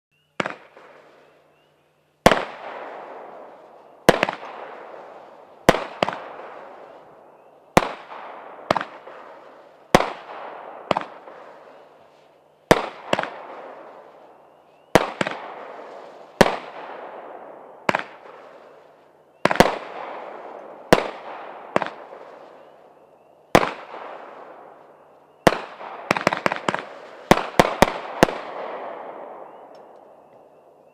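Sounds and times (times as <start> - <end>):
firework bangs: 0.4 - 1.4, 2.2 - 30.0.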